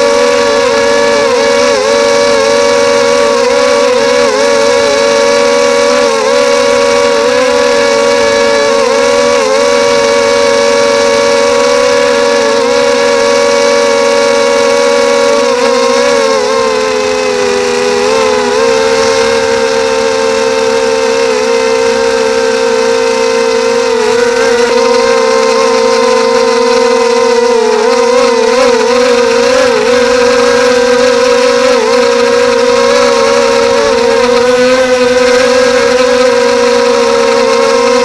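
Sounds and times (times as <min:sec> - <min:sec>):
drone propellers whining: 0:00.0 - 0:38.0.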